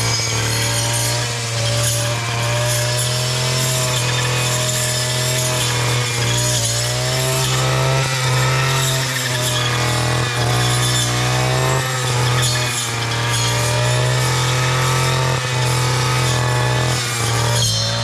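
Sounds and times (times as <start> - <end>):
brushcutter engine at high revs: 0.0 - 18.0.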